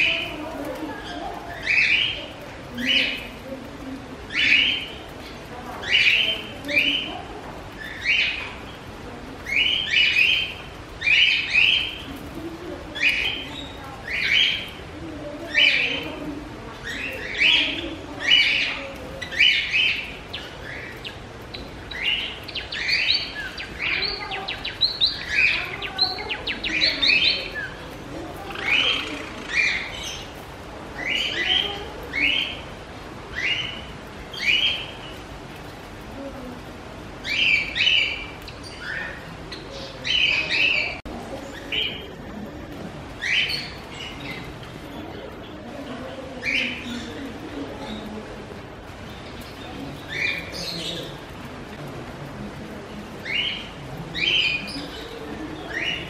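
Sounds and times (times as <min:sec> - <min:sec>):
small cage birds chirping: 0:00.0 - 0:56.0.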